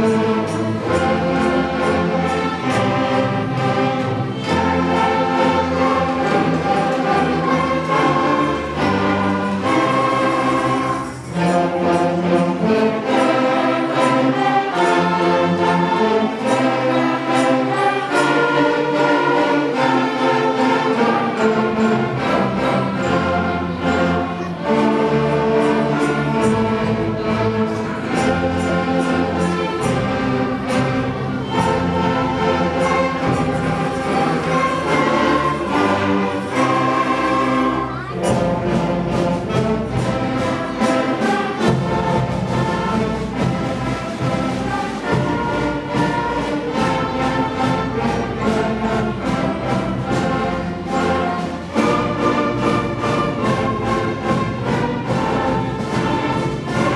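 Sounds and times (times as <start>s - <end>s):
band and string orchestra playing: 0.0s - 56.9s.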